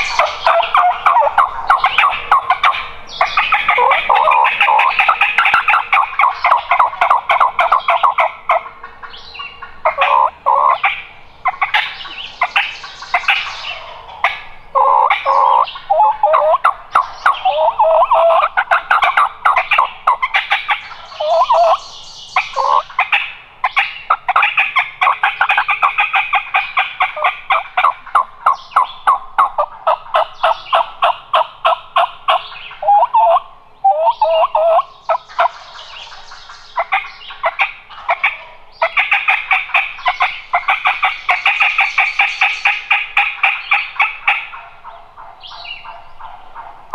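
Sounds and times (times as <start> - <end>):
turkey calling: 0.0 - 46.9.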